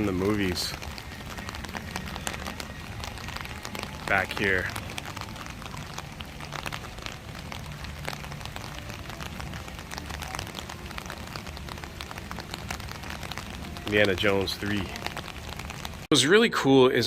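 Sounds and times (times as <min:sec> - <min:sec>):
steady rain falling: 0:00.0 - 0:16.4.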